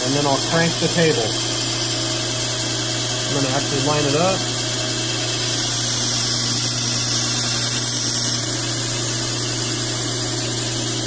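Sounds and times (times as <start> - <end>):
abrasive belt grinding steel: 0.0 - 11.0
grinder motor humming: 0.0 - 11.0.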